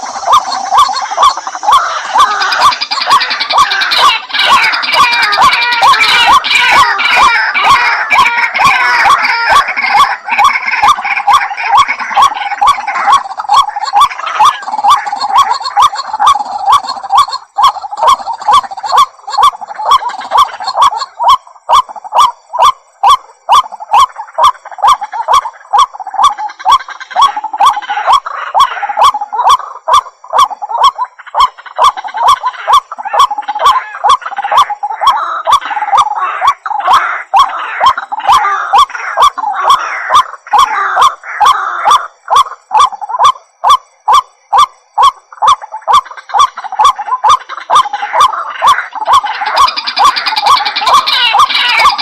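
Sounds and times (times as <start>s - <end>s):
bird calling harsh notes: 0.0s - 43.7s, 44.3s - 52.0s.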